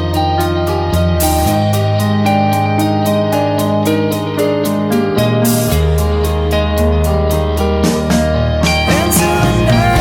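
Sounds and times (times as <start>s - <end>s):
instrumental keyboard music with beat: 0.0s - 10.0s.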